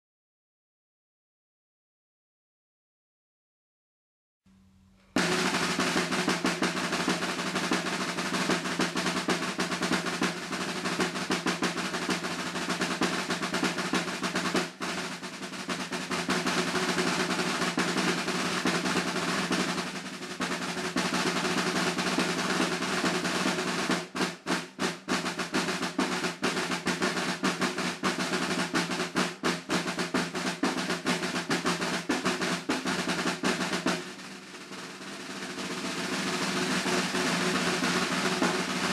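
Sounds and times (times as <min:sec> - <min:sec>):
snare drum rolls and sticking: 0:05.2 - 0:38.9.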